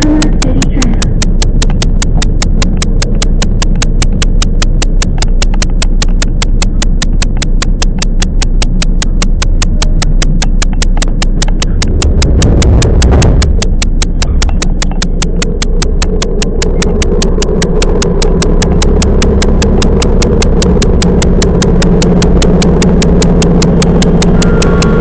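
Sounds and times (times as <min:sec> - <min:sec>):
electric train rumbling: 0:00.0 - 0:25.0
sharp clicking: 0:00.0 - 0:25.0.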